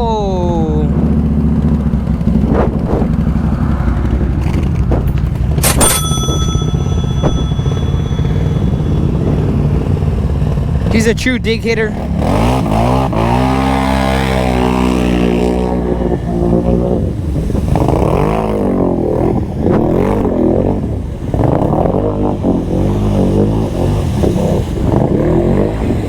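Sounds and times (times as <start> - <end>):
atv engine revving: 0.0 - 5.8, 7.7 - 26.0.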